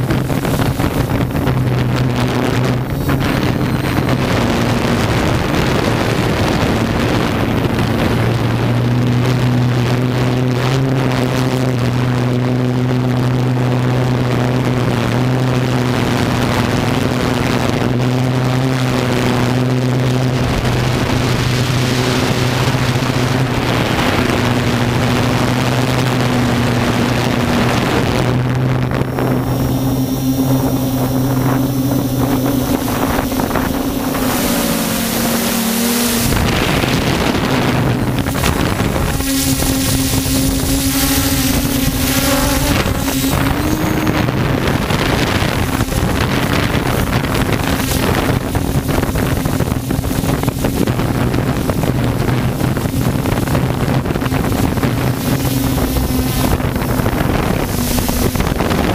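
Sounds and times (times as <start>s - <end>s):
drone propellers humming: 0.0s - 58.9s
wind hiss on microphone: 0.0s - 58.9s.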